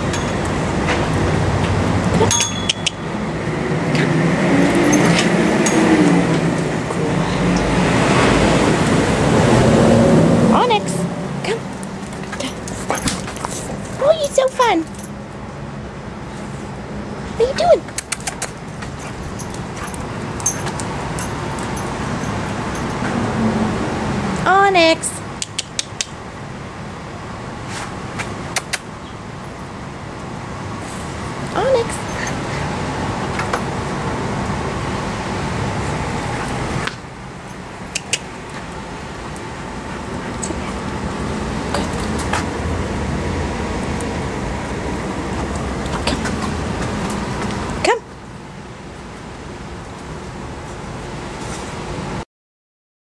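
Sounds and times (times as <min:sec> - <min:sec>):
low hum of engine: 0:00.0 - 0:52.2
road traffic rumble: 0:00.0 - 0:52.2.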